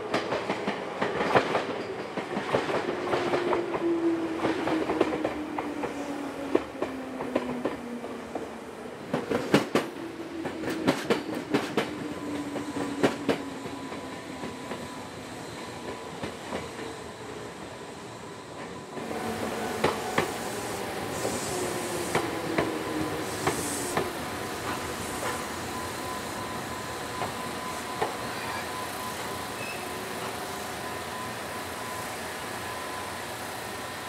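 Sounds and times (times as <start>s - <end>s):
electric train whine: 0.0s - 34.0s.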